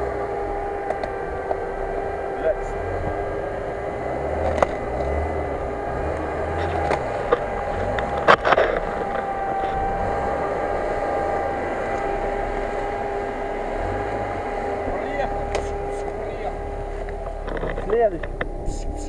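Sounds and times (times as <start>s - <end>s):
car engine running at low revs: 0.0s - 19.0s
steady whine: 0.0s - 19.0s.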